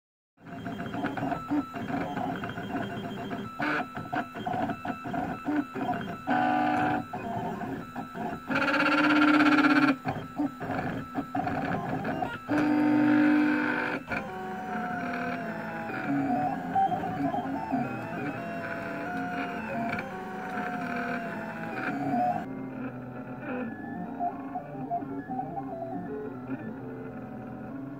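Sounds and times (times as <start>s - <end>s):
stepper motors whining: 0.5s - 27.8s
sustained motor tones: 0.5s - 27.9s.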